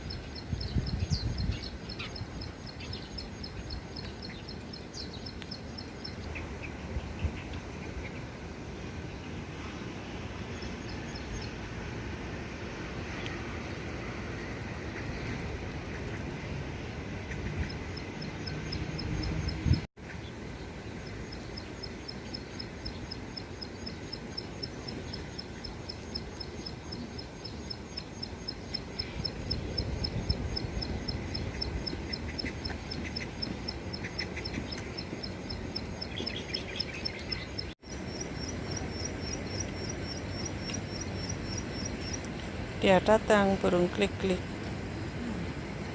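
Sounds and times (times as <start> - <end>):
low outdoor background rumble: 0.0 - 45.9.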